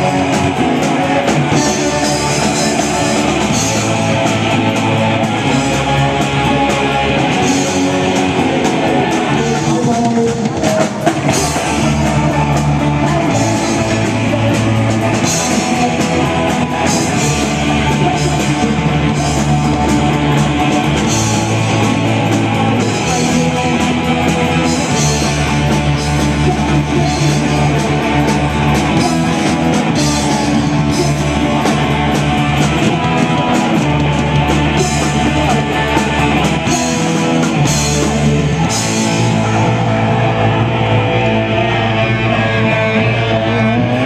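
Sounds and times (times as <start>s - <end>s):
bass guitar: 0.0s - 44.0s
drum kit: 0.0s - 44.0s
electric guitar: 0.0s - 44.0s.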